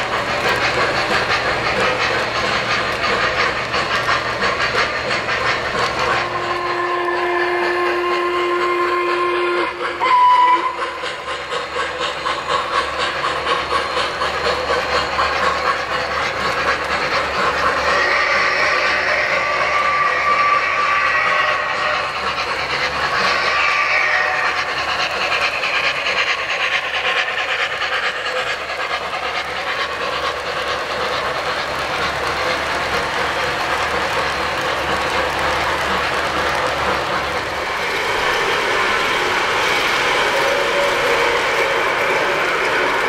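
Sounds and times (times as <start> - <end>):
model trains rumbling on rails: 0.0 - 43.0.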